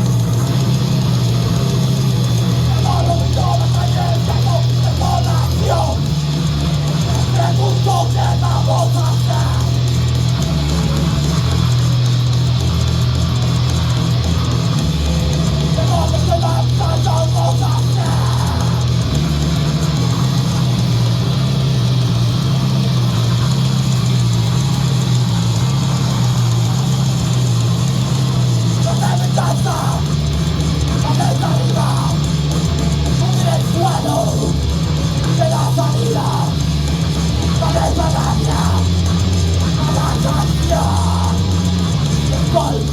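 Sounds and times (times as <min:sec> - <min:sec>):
bass line: 0:00.0 - 0:42.9
distorted guitars: 0:00.0 - 0:42.9
drum kit: 0:00.0 - 0:42.9.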